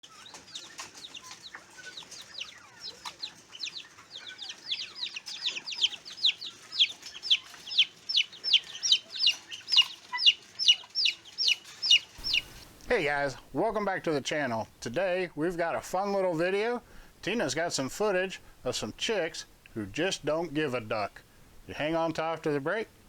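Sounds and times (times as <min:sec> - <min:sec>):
young poultry peeping: 0:00.0 - 0:22.7.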